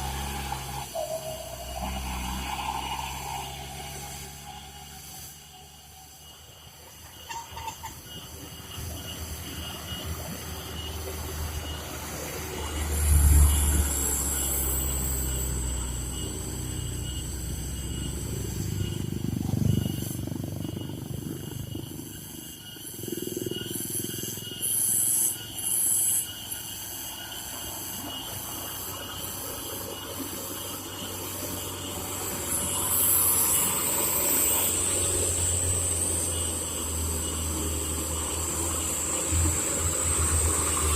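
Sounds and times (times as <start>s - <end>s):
diesel truck labouring uphill: 0.0s - 23.0s, 23.6s - 40.9s.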